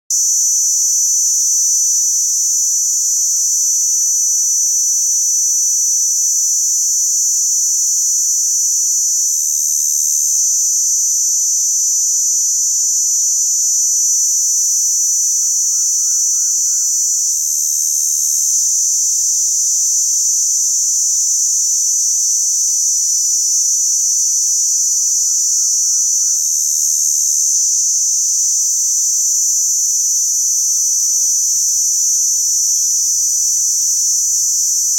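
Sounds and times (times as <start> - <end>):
crickets trilling: 0.1 - 34.9
higher-pitched cricket song: 0.1 - 34.9.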